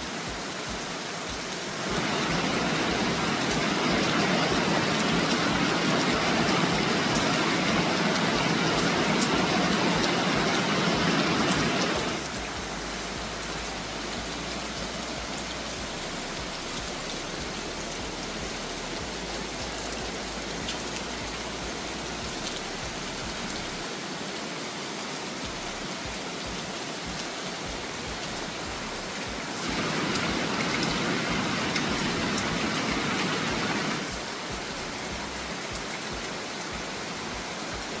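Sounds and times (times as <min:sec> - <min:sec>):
rain falling: 0:00.0 - 0:38.0
river water rushing: 0:00.0 - 0:38.0.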